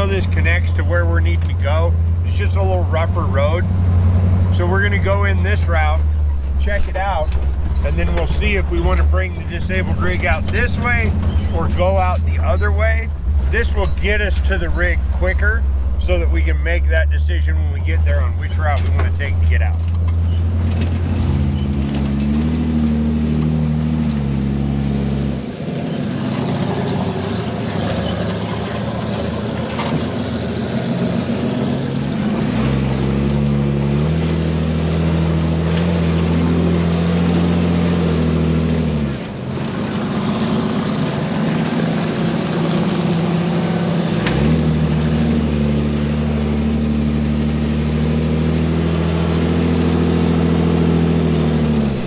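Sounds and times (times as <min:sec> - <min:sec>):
rattly road noise: 0:00.0 - 0:52.0
vehicle engine revving: 0:00.0 - 0:52.0.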